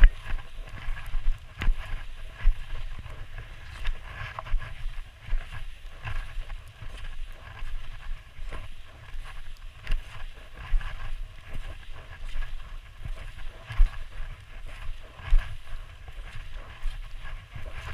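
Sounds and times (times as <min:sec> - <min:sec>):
knocks and scrapes of skis and poles: 0:00.0 - 0:17.9
skis sliding through snow: 0:00.0 - 0:17.9
wind rumble on microphone: 0:00.0 - 0:17.9.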